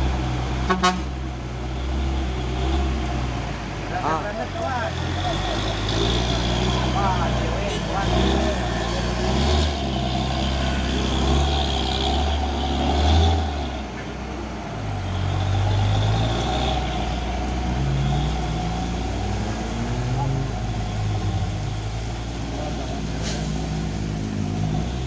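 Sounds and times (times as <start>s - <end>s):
diesel truck engines under load: 0.0s - 25.0s.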